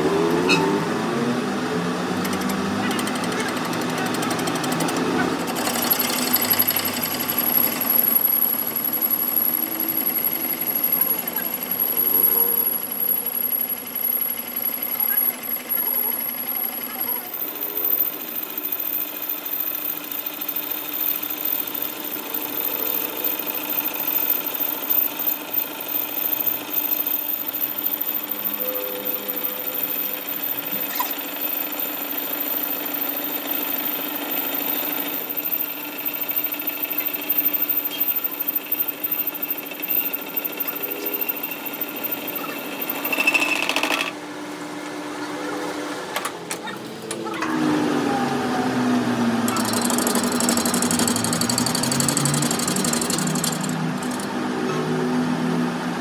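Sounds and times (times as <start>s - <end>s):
metal lathe humming: 0.0s - 44.2s, 49.0s - 55.9s
cutting tool boring metal: 2.0s - 44.2s, 49.3s - 55.2s.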